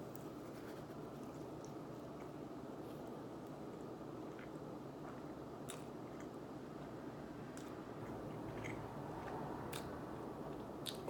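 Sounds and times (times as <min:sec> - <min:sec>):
low room hum: 0:00.0 - 0:11.0
quiet chewing: 0:00.1 - 0:06.9, 0:07.5 - 0:11.0.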